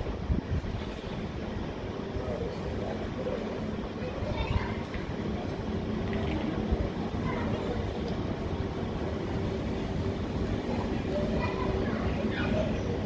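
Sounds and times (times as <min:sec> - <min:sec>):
faint constant hum: 0:00.0 - 0:13.0
railway station low rumble: 0:00.0 - 0:13.0.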